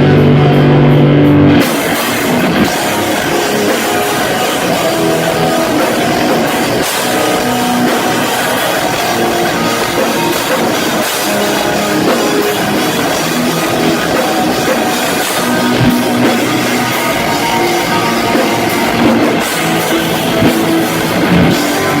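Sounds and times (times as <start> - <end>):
drum kit: 0.0 - 22.0
electric guitar: 0.0 - 22.0
rock band playing loudly: 0.0 - 22.0.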